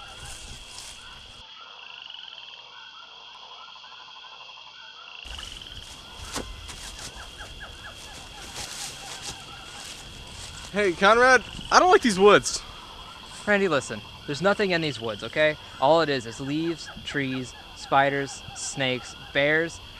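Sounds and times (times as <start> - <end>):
animal calls chorus: 0.0 - 19.9.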